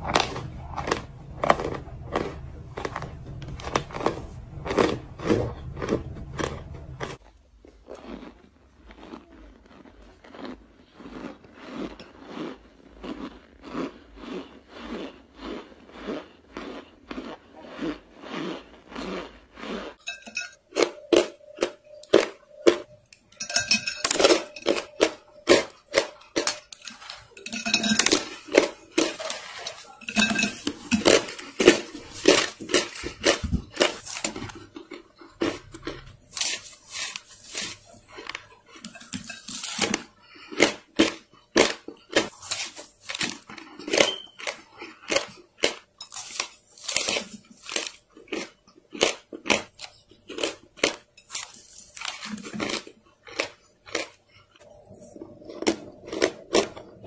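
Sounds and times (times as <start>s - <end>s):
squeaky crunchy chewing: 0.0s - 57.0s.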